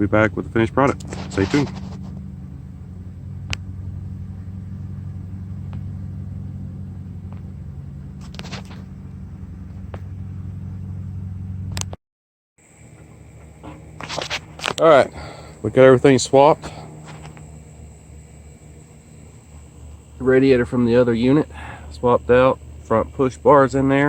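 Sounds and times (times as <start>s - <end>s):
engine idling: 0.0s - 11.8s, 12.6s - 24.0s.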